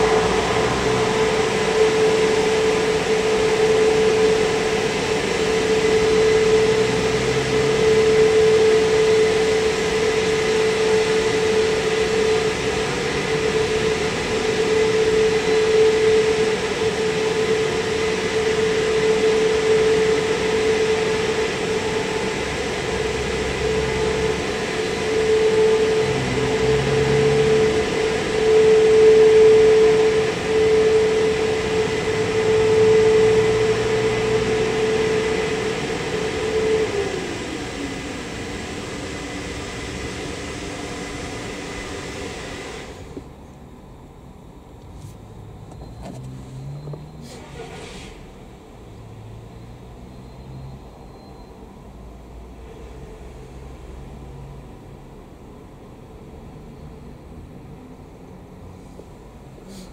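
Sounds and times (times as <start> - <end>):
car wash machine whine: 0.0 - 59.9.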